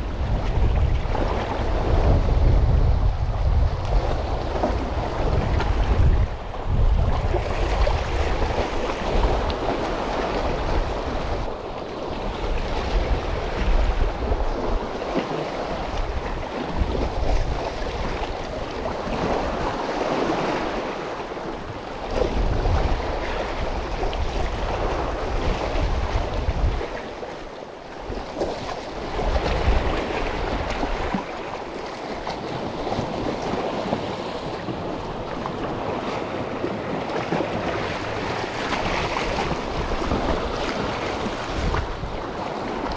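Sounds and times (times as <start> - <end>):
wind gusting on microphone: 0.0 - 27.4, 28.0 - 42.9
sea waves splashing on concrete: 3.1 - 42.9.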